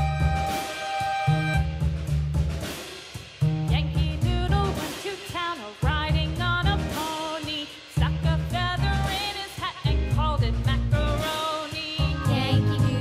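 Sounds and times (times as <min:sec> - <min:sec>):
music with drums and bass: 0:00.0 - 0:13.0.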